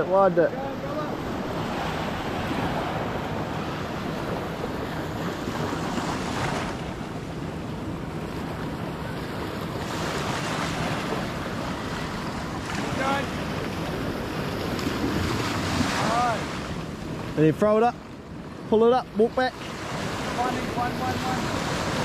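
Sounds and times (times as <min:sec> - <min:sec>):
small waves washing on shore: 0:00.0 - 0:22.0.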